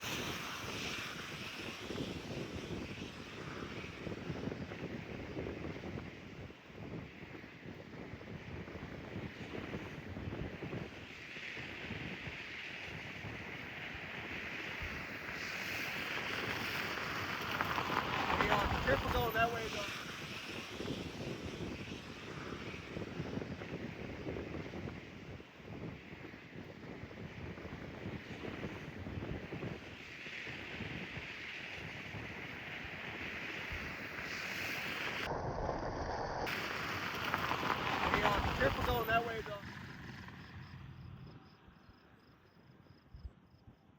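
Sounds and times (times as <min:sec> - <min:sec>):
strong wind buffeting microphone: 0:00.0 - 0:41.4.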